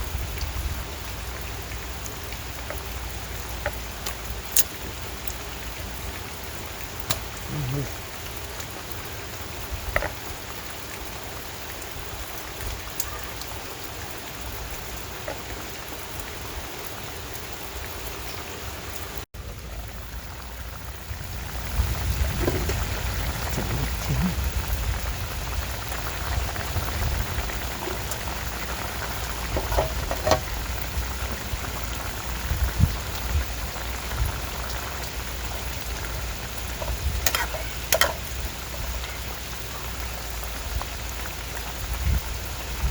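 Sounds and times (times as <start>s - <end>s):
raindrop ticks: 0.0s - 18.2s, 19.4s - 42.9s
steady rain falling: 0.0s - 42.9s.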